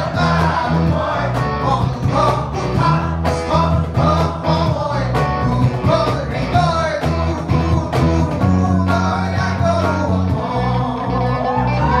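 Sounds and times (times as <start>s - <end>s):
bass guitar: 0.0s - 12.0s
electric guitar: 0.0s - 12.0s
man singing: 0.0s - 12.0s.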